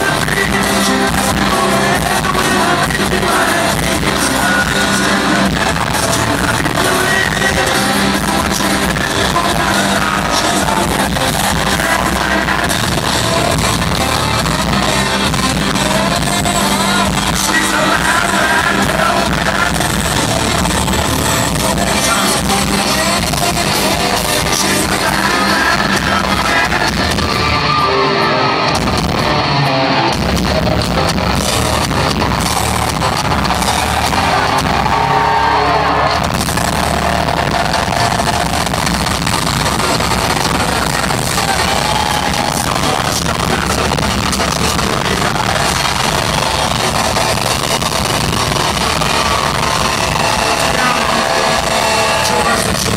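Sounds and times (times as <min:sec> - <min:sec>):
lead singer: 0:00.0 - 0:52.9
live rock band playing: 0:00.0 - 0:52.9.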